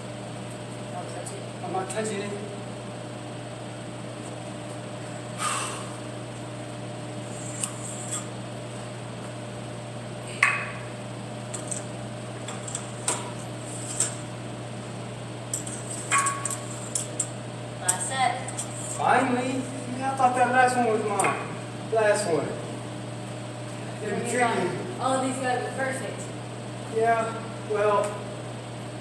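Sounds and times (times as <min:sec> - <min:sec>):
ventilation hum: 0:00.0 - 0:29.0.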